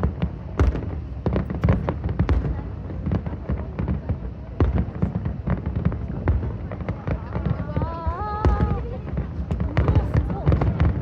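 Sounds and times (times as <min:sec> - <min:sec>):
fireworks bangs and crackles: 0:00.0 - 0:11.0
heavy firework booms: 0:00.0 - 0:11.0.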